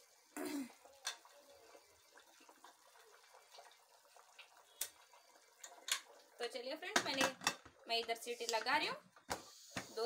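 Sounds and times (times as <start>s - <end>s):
thick gravy bubbling and popping: 0.0s - 10.0s.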